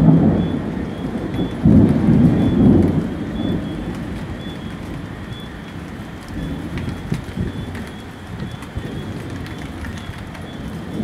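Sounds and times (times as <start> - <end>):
low thunder rumble: 0.0 - 11.0
raindrops ticking: 0.0 - 11.0.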